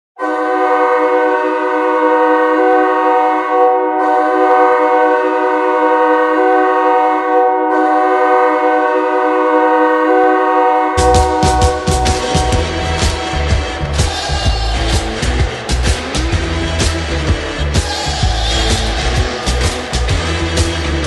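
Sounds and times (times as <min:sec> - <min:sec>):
goal horn blast: 0:00.2 - 0:21.0.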